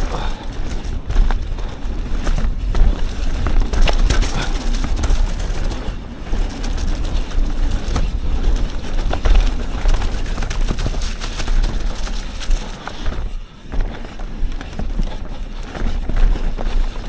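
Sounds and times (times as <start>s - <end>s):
bike knocking and rattling: 0.0s - 17.0s
wind and rolling tyres rumble: 0.0s - 17.0s.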